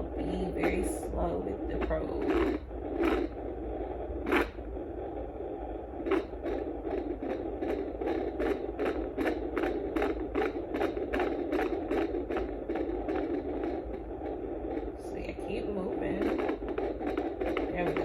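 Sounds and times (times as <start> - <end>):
fetal heartbeat whooshing pulses: 0.0 - 18.0.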